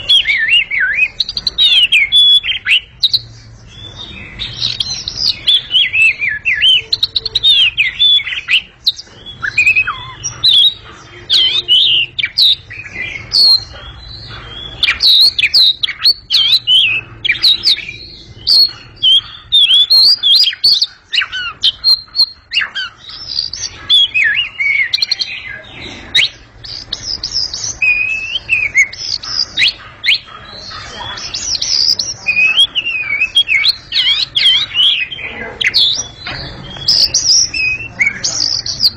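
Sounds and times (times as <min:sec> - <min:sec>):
songbird singing whistles and chirps: 0:00.0 - 0:38.9.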